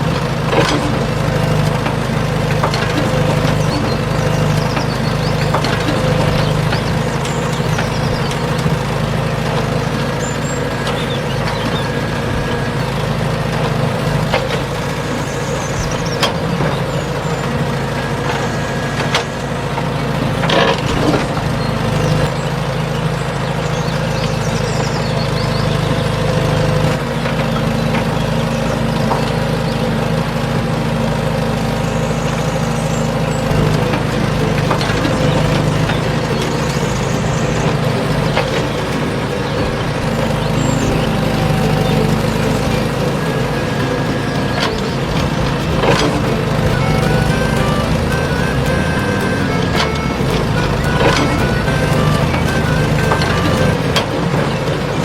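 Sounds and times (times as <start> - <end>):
small gear motors running: 0.0 - 22.5, 23.1 - 55.0.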